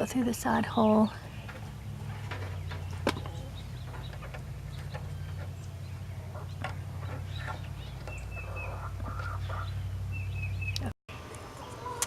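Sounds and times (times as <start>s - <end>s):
steady low hum: 0.0s - 11.6s
chickens clucking: 1.1s - 10.1s, 11.3s - 12.0s.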